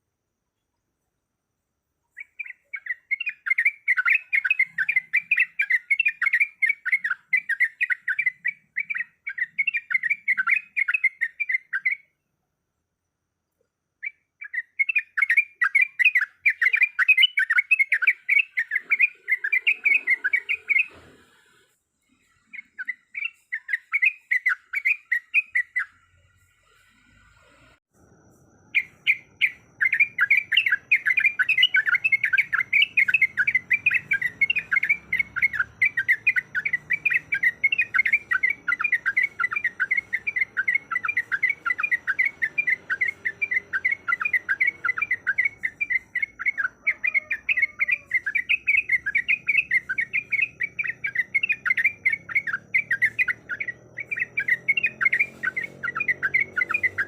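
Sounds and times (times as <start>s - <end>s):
bird chattering song: 2.1s - 12.2s, 14.0s - 21.2s, 22.1s - 26.0s, 28.7s - 57.0s.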